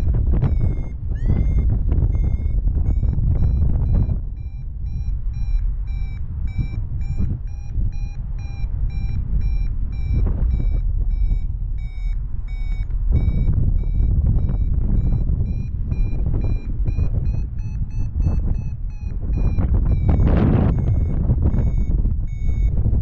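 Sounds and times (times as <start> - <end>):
variometer beeping: 0.0 - 23.0
wind rushing on microphone: 0.0 - 23.0.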